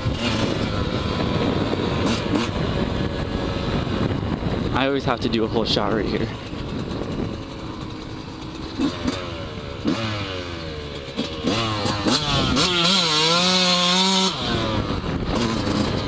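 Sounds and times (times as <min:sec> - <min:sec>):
dirt bike engine accelerating: 0:00.0 - 0:16.0.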